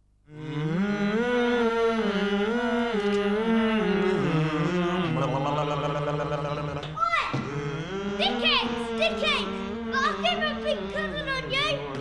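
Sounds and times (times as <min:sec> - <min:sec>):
person chanting: 0:00.3 - 0:12.0.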